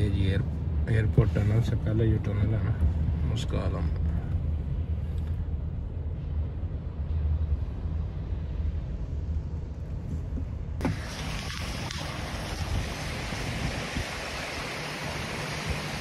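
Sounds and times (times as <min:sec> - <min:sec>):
road rumble inside a car: 0:00.0 - 0:16.0
wind blowing across microphone: 0:00.0 - 0:16.0.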